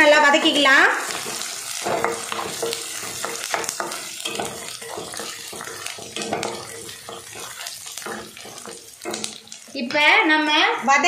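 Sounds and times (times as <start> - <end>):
food sizzling in oil: 0.0 - 11.0
wooden spatula scraping pan: 0.5 - 9.8.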